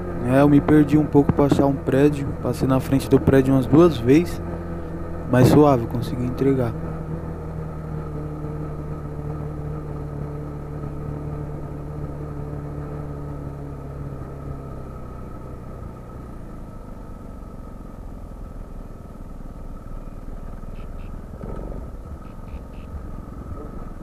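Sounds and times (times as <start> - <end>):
steady motor whine: 0.0 - 19.0, 19.8 - 24.0
low engine hum: 0.0 - 24.0
street traffic: 0.0 - 24.0.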